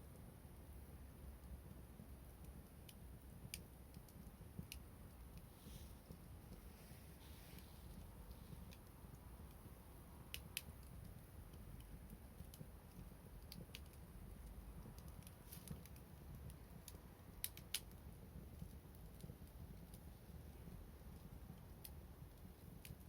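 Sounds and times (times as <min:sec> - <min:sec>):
low steady rumble: 0:00.0 - 0:23.0
wood fire crackling: 0:00.0 - 0:23.0
sharp snaps and pops: 0:01.3 - 0:06.7, 0:07.5 - 0:23.0.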